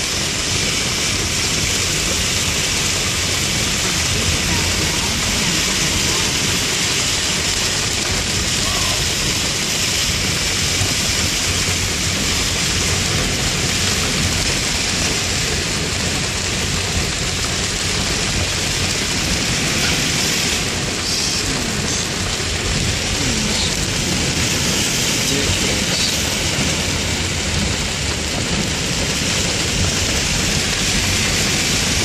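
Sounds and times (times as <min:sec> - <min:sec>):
heavy rain on a moving car: 0:00.0 - 0:32.0.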